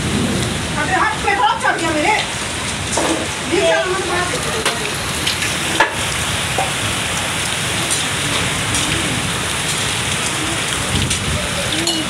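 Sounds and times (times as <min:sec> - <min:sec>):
heavy rain falling: 0:00.0 - 0:12.0
raindrop hits close by: 0:00.0 - 0:12.0.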